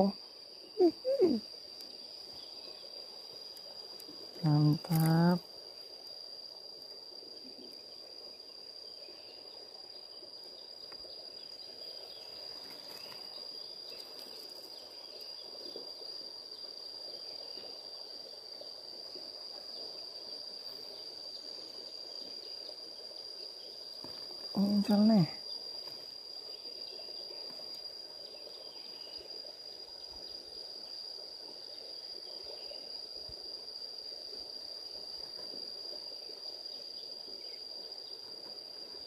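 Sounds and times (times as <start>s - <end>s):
insects trilling: 0.0s - 39.0s
outdoor background noise: 0.0s - 39.0s.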